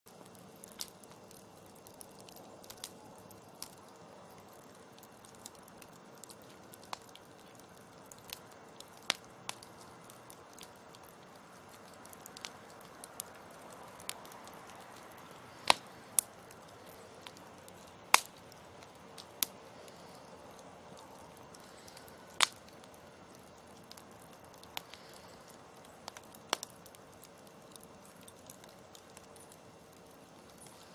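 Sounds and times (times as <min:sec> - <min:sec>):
burning logs popping: 0:00.1 - 0:30.9
fire hiss: 0:00.1 - 0:30.9
wood fire crackling: 0:00.1 - 0:30.9.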